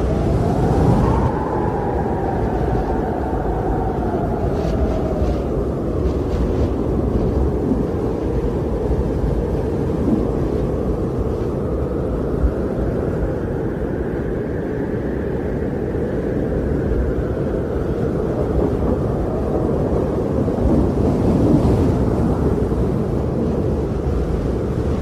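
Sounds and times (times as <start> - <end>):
wind blowing: 0.0 - 25.0.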